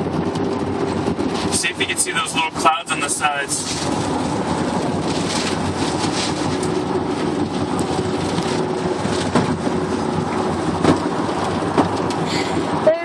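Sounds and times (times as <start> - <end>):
road noise inside car: 0.0 - 13.0.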